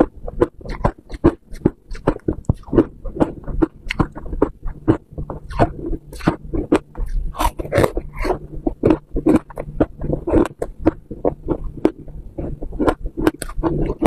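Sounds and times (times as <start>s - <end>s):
crunching and chewing frost: 0.0s - 14.0s.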